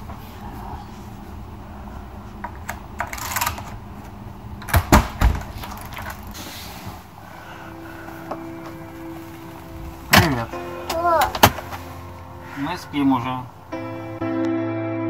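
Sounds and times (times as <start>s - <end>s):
train rumble: 0.0s - 4.7s, 5.7s - 13.9s.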